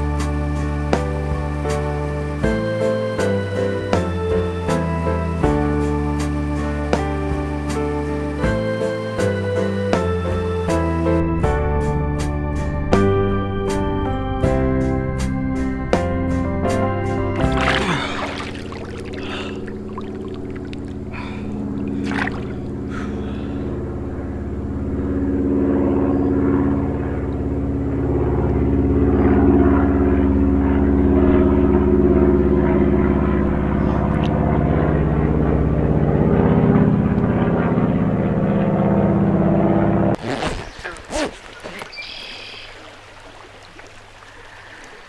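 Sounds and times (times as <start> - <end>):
low rumbling drone: 0.0 - 40.2.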